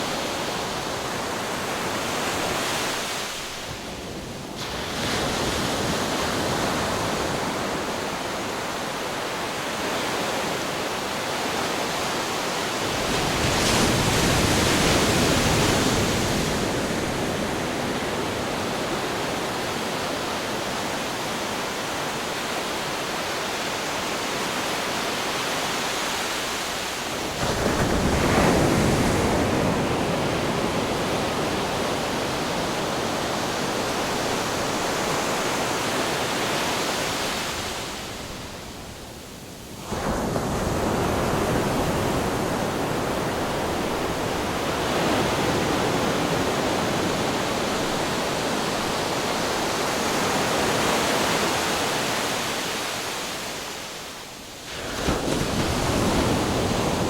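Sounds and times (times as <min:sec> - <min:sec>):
ocean waves crashing against rocks: 0:00.0 - 0:38.8, 0:39.8 - 0:57.0.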